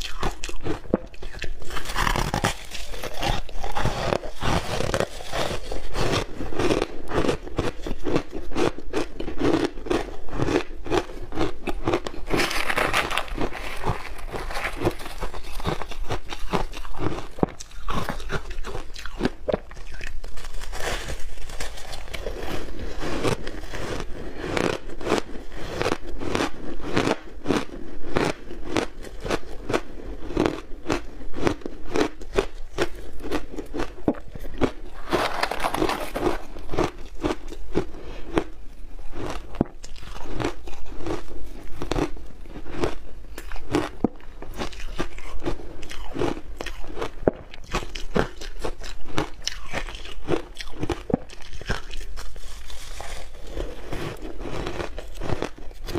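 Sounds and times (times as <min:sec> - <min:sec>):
chewing crunchy ice: 0:00.0 - 0:55.9.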